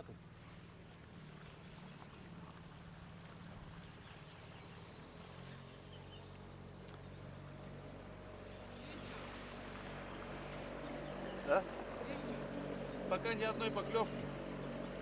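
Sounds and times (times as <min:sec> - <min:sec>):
distant motorboat engine hum: 0:00.0 - 0:15.0.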